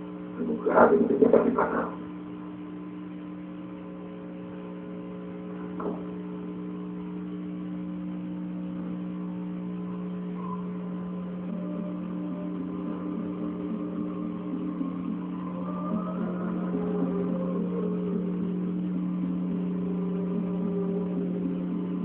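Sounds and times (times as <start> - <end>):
low hum of held tones: 0.0 - 22.0.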